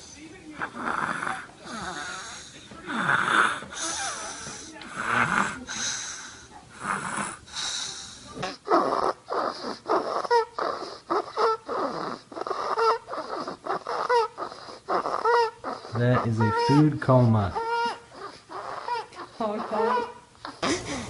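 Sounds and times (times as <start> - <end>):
baby snoring: 0.6 - 21.0.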